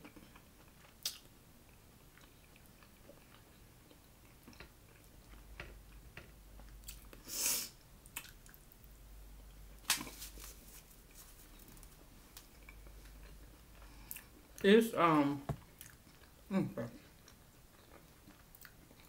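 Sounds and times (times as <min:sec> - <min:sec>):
person chewing pizza crust: 0:00.0 - 0:07.2, 0:08.0 - 0:08.8, 0:09.5 - 0:14.7, 0:15.6 - 0:19.0.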